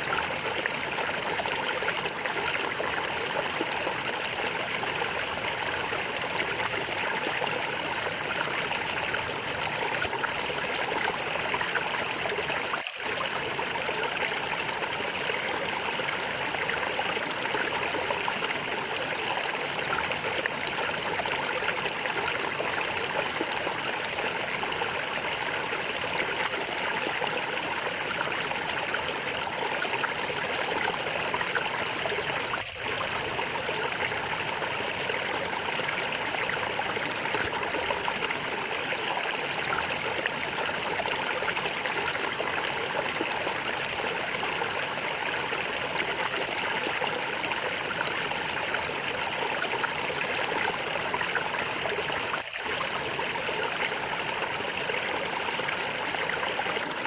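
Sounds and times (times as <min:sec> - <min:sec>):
running water gurgling: 0:00.0 - 0:57.0.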